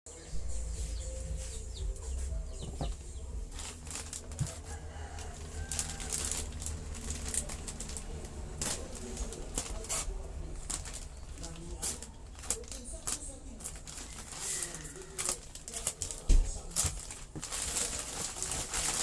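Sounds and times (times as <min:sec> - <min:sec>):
plastic packaging crinkling: 0:01.6 - 0:19.0.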